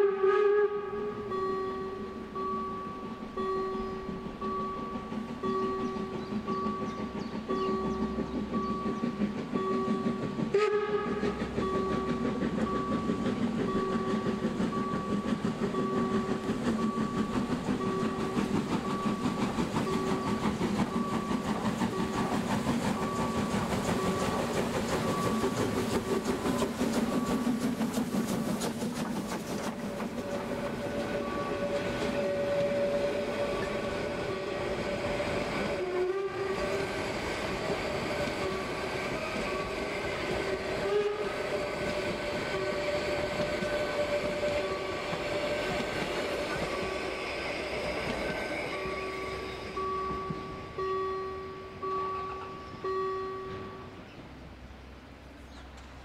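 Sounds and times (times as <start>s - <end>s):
steam locomotive exhaust chuffs: 0.0s - 56.0s
level-crossing warning beeps: 1.2s - 10.6s, 11.3s - 28.0s, 30.0s - 35.8s, 36.5s - 40.8s, 41.4s - 54.0s
wheels clattering on rails: 1.3s - 54.5s
carriages rolling with squeal: 2.4s - 54.3s.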